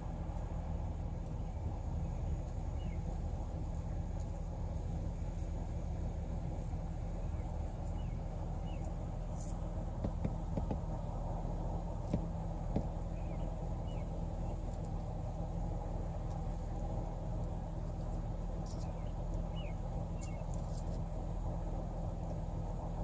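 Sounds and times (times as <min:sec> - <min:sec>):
engine idling hum: 0:00.0 - 0:23.0.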